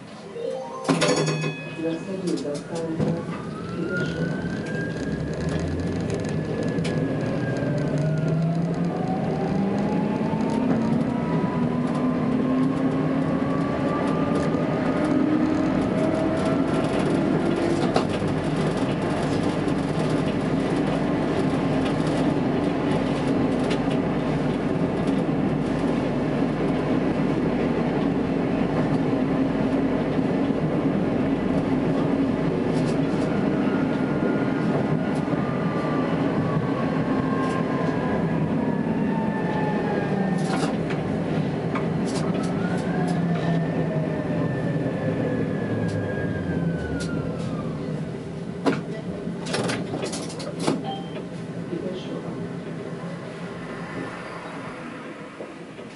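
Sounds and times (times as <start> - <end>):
tram rolling rumble: 0.0 - 55.9.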